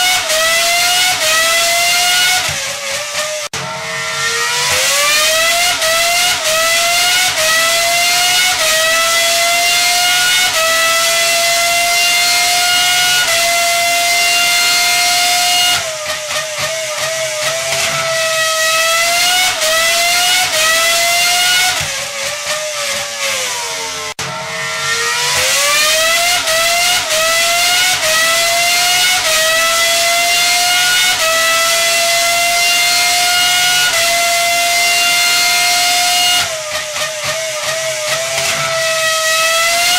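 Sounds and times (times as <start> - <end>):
high-revving engine accelerating: 0.0 - 39.9.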